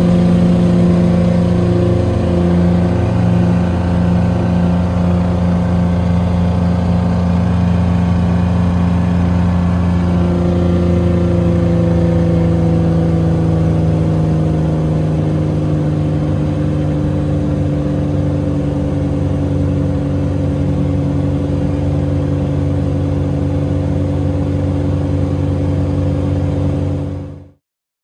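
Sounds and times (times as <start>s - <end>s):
propeller plane engine droning: 0.0s - 27.6s.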